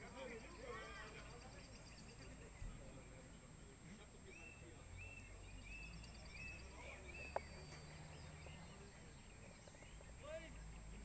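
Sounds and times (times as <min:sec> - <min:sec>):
faint bird song: 0:00.0 - 0:11.0.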